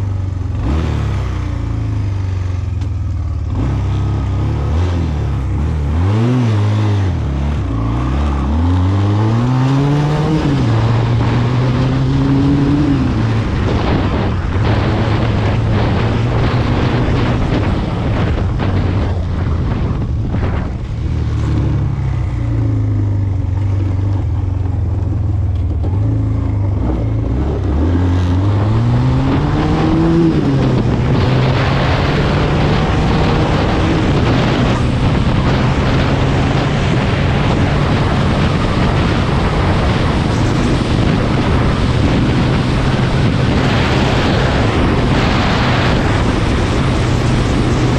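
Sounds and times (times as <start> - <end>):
steady rushing noise: 0.0 - 47.9
quad bike engine revving: 3.5 - 20.4, 21.2 - 47.9.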